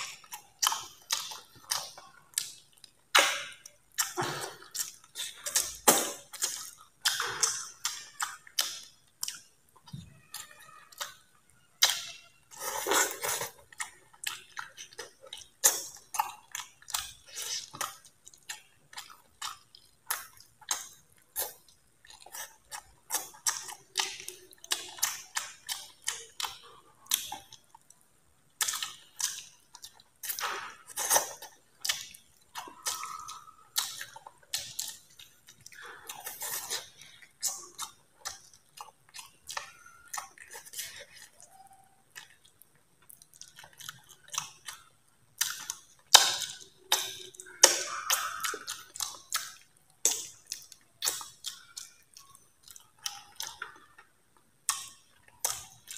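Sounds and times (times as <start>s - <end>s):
lip smacking and chewing: 0.0s - 55.9s.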